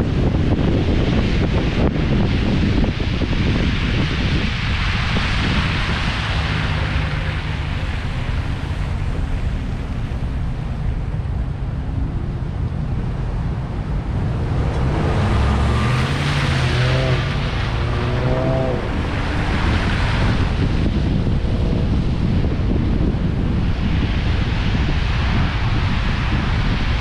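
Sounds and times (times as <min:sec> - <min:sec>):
vehicle engine rising: 0:00.0 - 0:23.2
tyres rumbling on road: 0:00.0 - 0:27.0
wind rushing over camera: 0:00.0 - 0:27.0.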